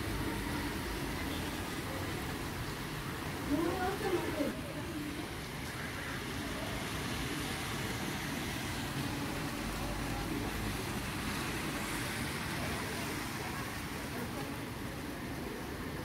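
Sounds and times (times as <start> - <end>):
car moving through floodwater: 0.0 - 16.0
heavy rain on a flooded street: 0.0 - 16.0.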